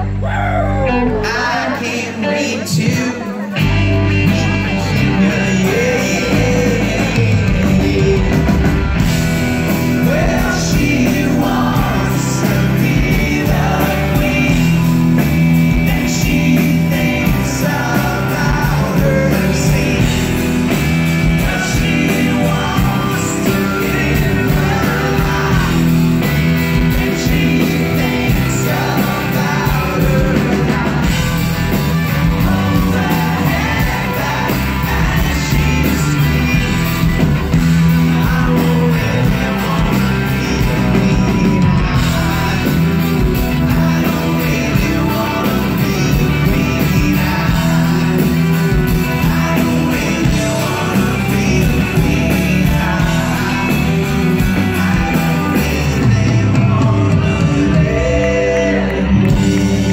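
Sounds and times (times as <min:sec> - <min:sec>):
electric guitars: 0:00.0 - 0:59.9
live rock band playing: 0:00.0 - 0:59.9
man singing lead: 0:00.0 - 0:59.9.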